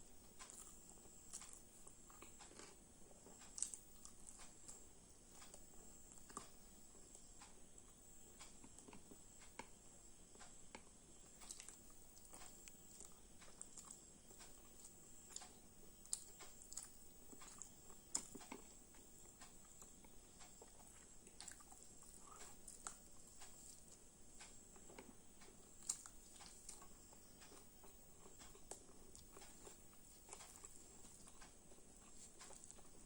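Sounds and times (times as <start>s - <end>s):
person chewing food: 0.1s - 33.0s.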